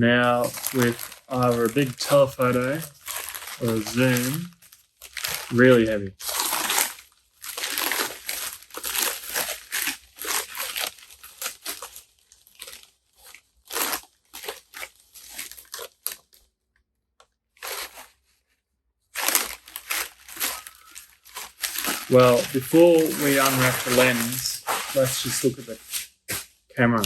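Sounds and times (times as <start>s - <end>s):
packing wrap crumpling and tearing: 0.2s - 16.5s, 17.6s - 18.3s, 19.1s - 26.5s.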